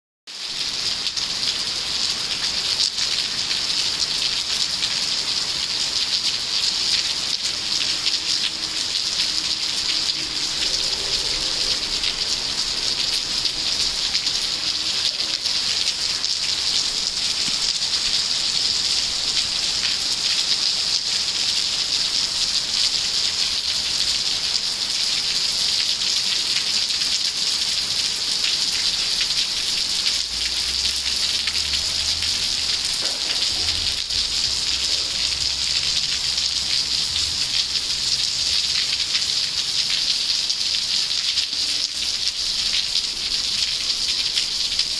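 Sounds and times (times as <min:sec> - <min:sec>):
steady rain pattering: 0:00.3 - 0:44.9.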